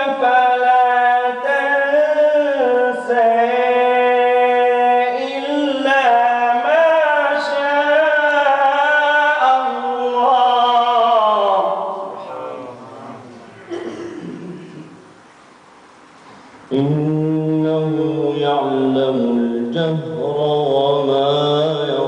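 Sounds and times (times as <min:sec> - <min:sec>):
man reciting melodically: 0:00.0 - 0:13.4, 0:16.7 - 0:22.0.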